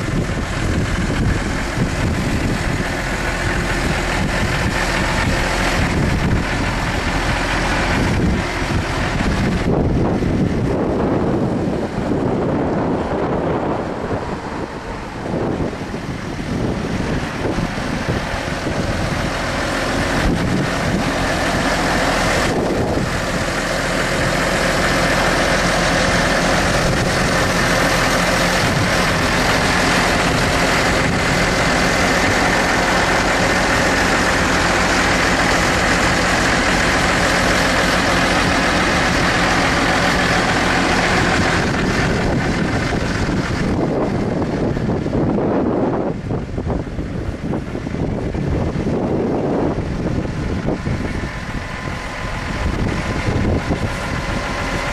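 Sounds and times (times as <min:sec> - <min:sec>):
tractor diesel engine idling: 0:00.0 - 0:54.9.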